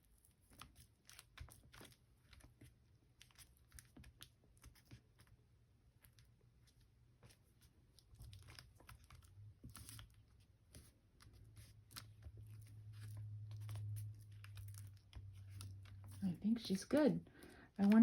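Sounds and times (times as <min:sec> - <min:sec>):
paper crinkling and rustling: 0:00.0 - 0:18.0.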